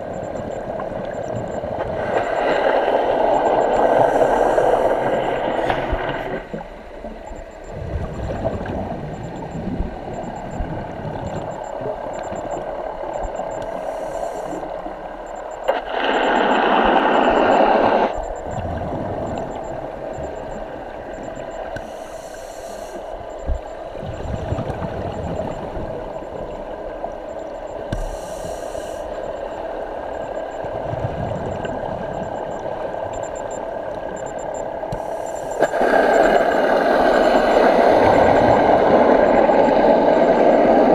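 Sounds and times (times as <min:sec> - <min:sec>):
underwater water rush: 0:00.0 - 0:40.9.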